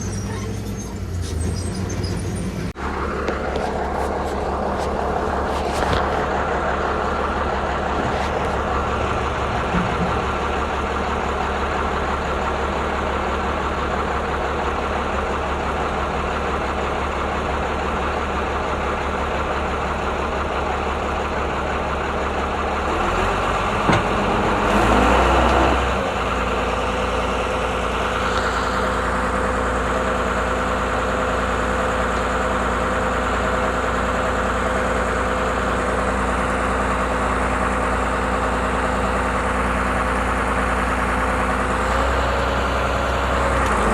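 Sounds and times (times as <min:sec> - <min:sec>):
diesel engine revving: 0:00.0 - 0:43.9.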